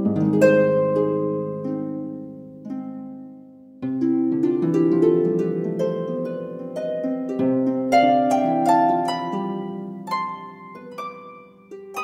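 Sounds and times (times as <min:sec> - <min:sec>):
harp playing: 0:00.0 - 0:12.0.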